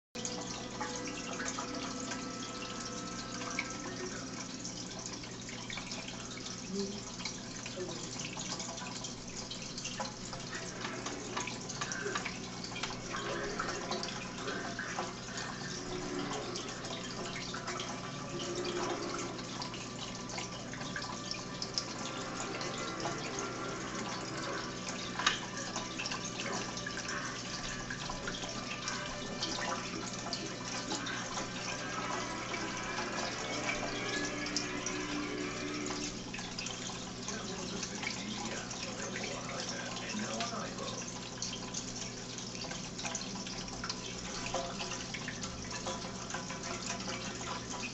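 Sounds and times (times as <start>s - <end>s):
trickling water: 0.2s - 47.9s.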